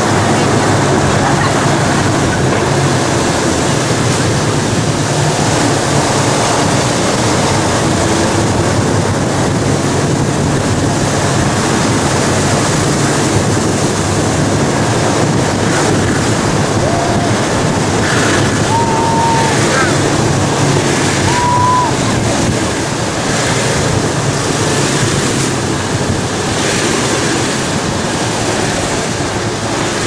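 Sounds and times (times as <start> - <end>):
bus engine humming: 0.0 - 30.0
road noise: 0.0 - 30.0
wind rushing on microphone: 0.0 - 30.0.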